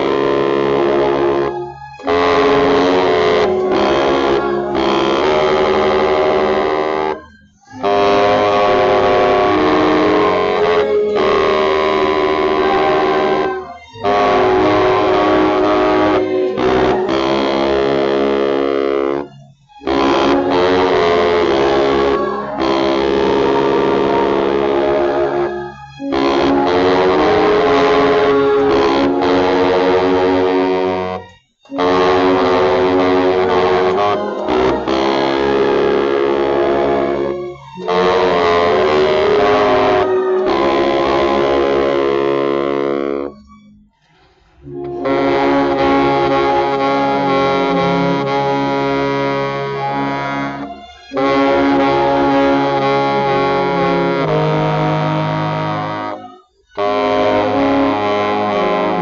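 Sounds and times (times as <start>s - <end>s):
growling baritone saxophone: 0.0s - 43.5s, 44.6s - 59.0s.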